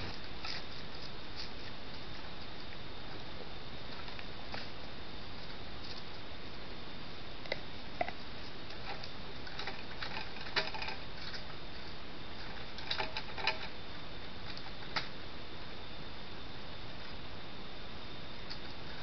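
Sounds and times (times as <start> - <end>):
microphone hiss and whine: 0.0 - 19.0.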